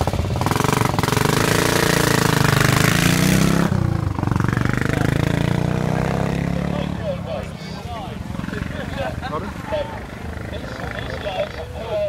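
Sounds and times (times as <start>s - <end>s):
motorcycle engine accelerating hard: 0.0s - 11.8s.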